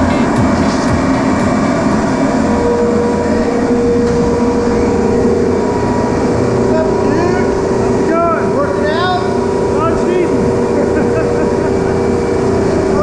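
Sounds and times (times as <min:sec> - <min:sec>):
loud machinery hum: 0:00.0 - 0:13.0.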